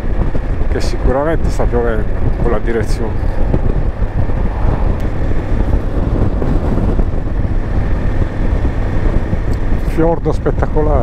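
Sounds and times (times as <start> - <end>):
motorcycle engine: 0.0 - 11.0
road noise: 0.0 - 11.0
wind buffeting microphone: 0.0 - 11.0.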